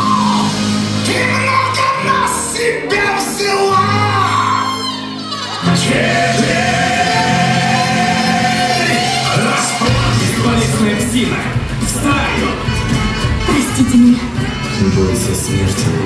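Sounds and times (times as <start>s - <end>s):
music with singing: 0.0s - 16.0s.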